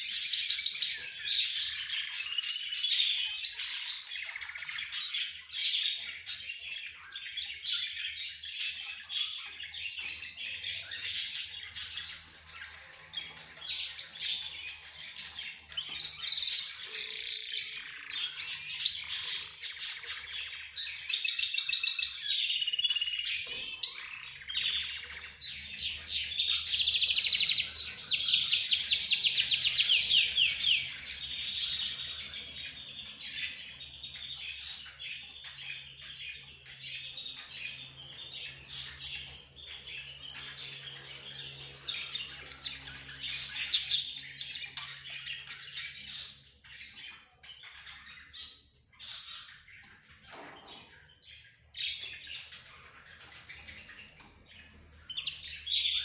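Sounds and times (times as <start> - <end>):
cage birds chirping and chattering: 0.0 - 56.0.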